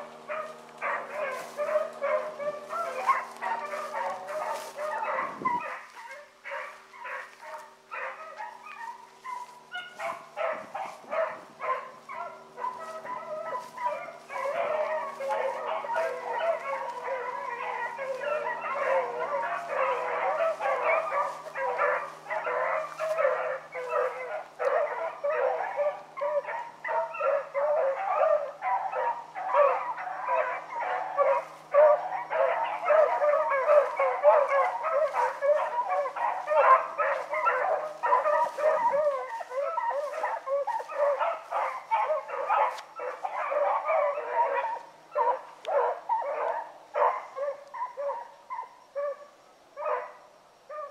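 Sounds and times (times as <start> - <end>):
hounds baying and yelping: 0.0 - 50.9.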